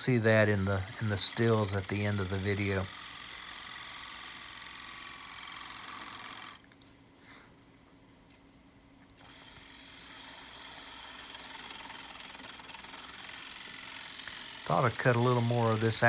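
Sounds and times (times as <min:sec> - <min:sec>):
gouge cutting wood hiss: 0:00.0 - 0:06.6, 0:09.2 - 0:16.0
lathe motor hum: 0:00.0 - 0:06.6, 0:09.2 - 0:16.0.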